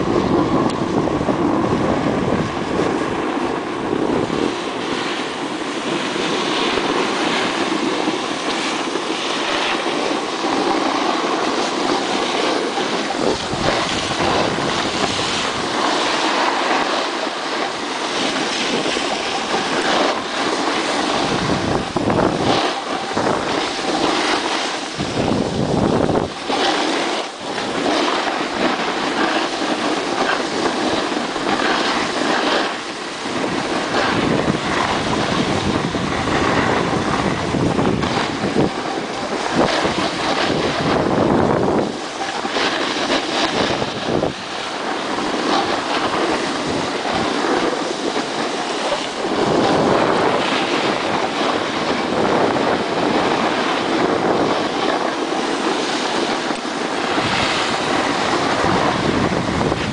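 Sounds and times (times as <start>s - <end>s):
skis scraping on snow: 0.0s - 59.9s
wind buffeting microphone: 0.0s - 59.9s.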